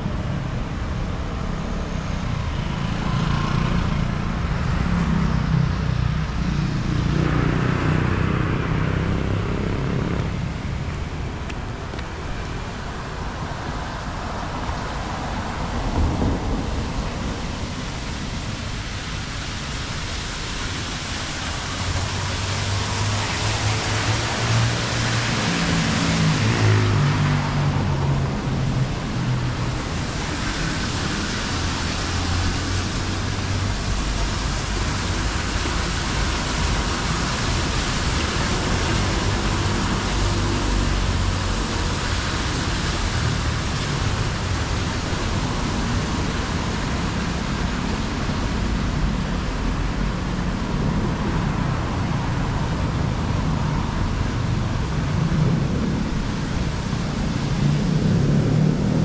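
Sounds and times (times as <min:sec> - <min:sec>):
road traffic rush: 0:00.0 - 0:59.0.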